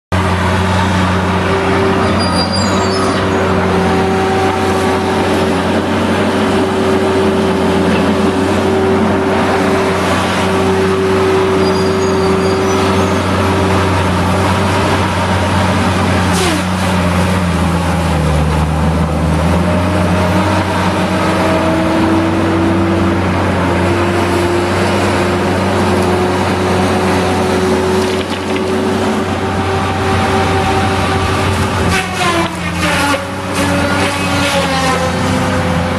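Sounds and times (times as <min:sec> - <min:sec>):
diesel engine running: 0:00.1 - 0:35.9.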